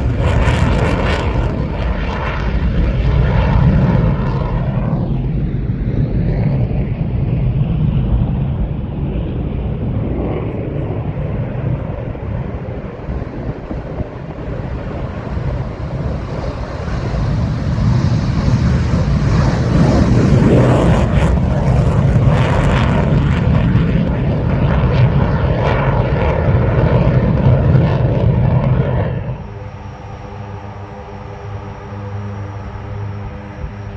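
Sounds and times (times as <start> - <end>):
aircraft engine noise: 0.0 - 33.9.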